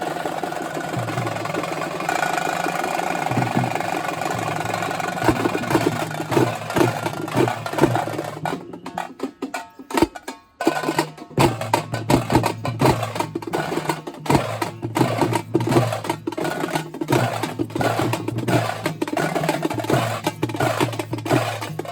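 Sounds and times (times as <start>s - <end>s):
folk drums beaten fast: 0.0s - 21.9s.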